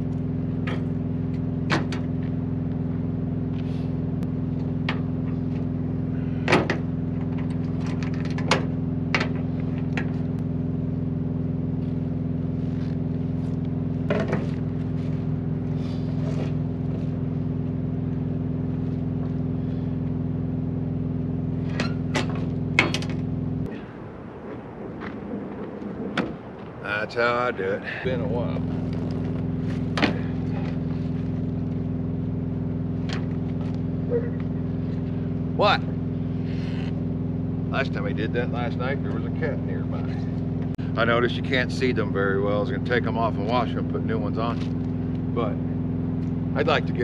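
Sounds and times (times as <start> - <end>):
diesel truck engine idling: 0.0 - 24.8, 26.9 - 47.0.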